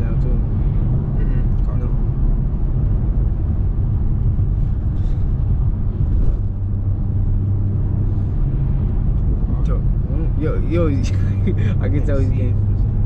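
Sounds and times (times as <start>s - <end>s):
car engine and road noise: 0.0s - 13.0s
low hum: 0.0s - 13.0s.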